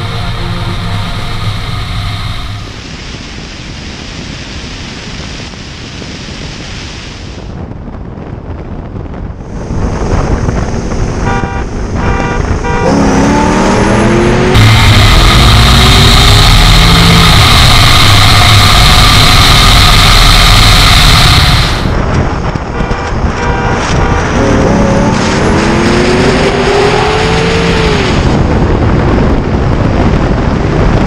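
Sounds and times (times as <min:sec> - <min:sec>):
car engine at full throttle: 0:00.0 - 0:06.1, 0:08.2 - 0:31.0.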